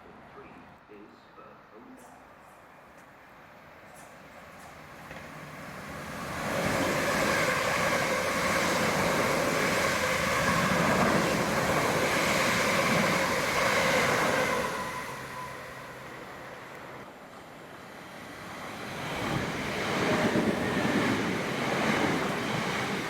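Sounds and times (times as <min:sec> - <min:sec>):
electric train passing: 0:01.4 - 0:23.0.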